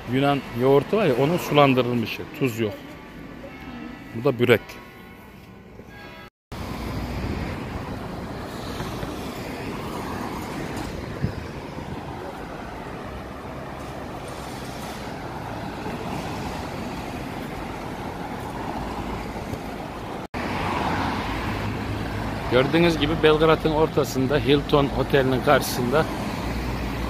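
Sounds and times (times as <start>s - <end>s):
rumble of street traffic: 0.0s - 27.0s.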